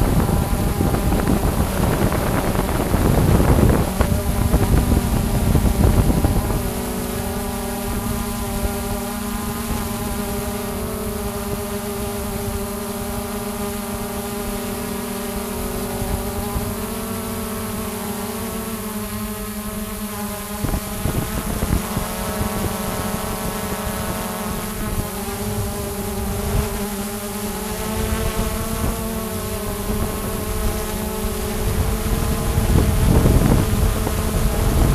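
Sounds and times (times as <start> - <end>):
drone propellers humming: 0.0 - 34.9
rush of wind noise: 0.0 - 34.9.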